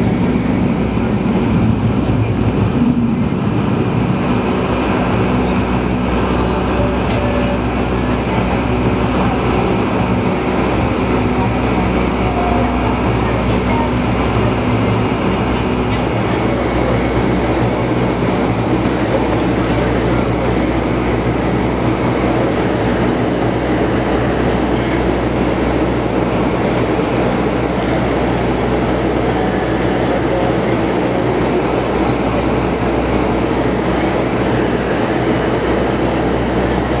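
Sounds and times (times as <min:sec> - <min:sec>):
jet engines and rushing air: 0:00.0 - 0:37.0.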